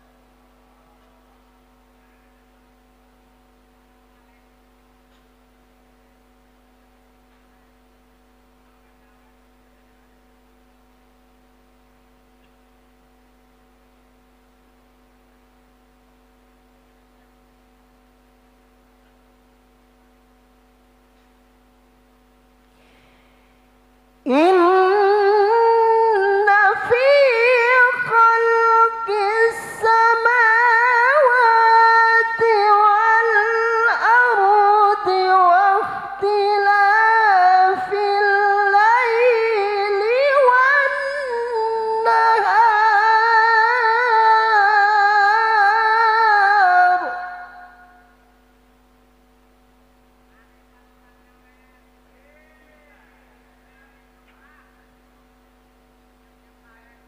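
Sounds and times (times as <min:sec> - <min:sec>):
faint electrical hum: 0:00.0 - 0:57.0.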